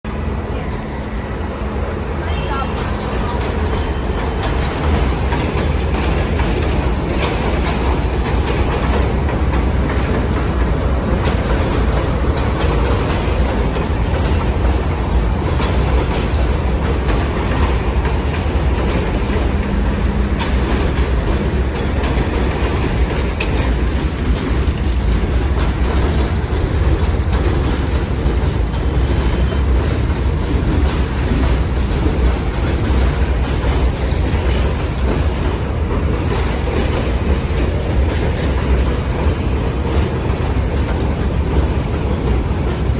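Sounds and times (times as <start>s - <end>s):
subway train rumbling past: 0.0s - 42.9s
wheels clacking over rail joints: 2.3s - 42.9s.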